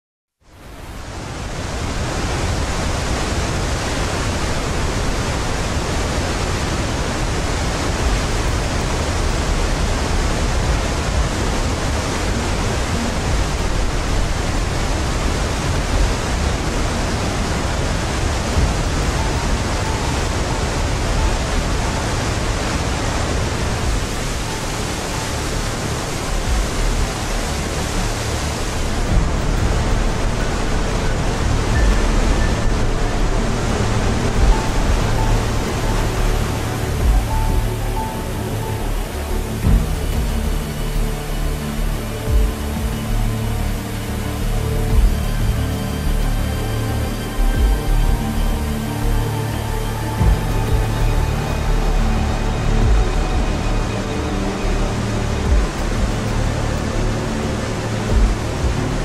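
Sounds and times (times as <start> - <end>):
river rapids rushing: 0.4 - 59.0.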